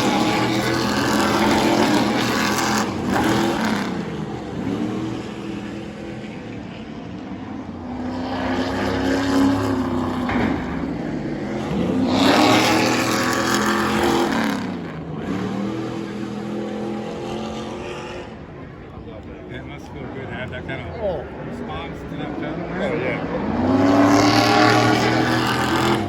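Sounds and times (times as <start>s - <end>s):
race truck engines passing: 0.0s - 26.0s.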